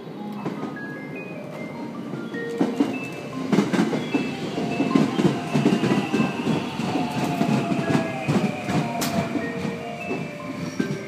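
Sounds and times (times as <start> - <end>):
train wheels clattering over joints: 1.5 - 11.0.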